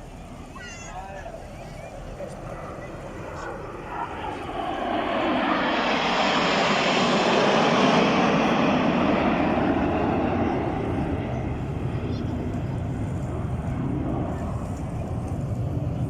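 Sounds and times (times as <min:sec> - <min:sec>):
aircraft engine passing low: 0:00.0 - 0:16.0.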